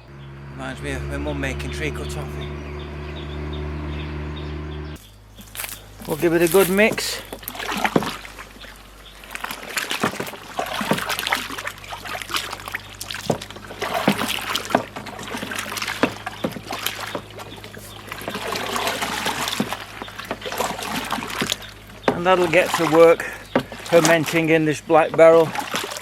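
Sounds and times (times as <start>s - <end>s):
water sloshing in a barrel: 5.0s - 26.0s.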